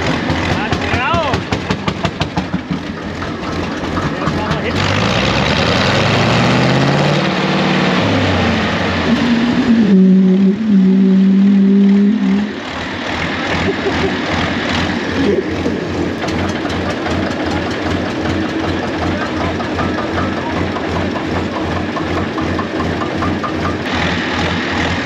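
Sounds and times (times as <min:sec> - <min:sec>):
tractor engines idling: 0:00.0 - 0:25.0.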